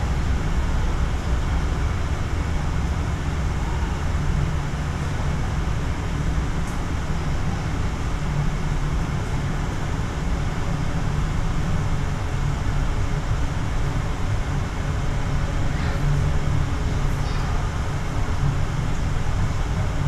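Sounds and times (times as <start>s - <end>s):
low rumble inside cable car: 0.0s - 20.0s.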